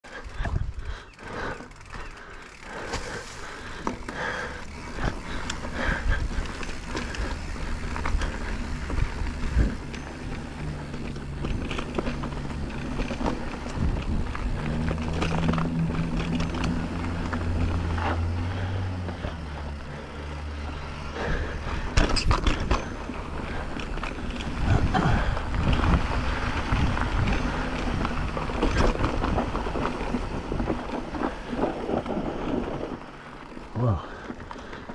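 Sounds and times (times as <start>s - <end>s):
bike tyres rolling over dirt: 0.0s - 34.9s
bike rattling and knocking: 0.1s - 34.9s.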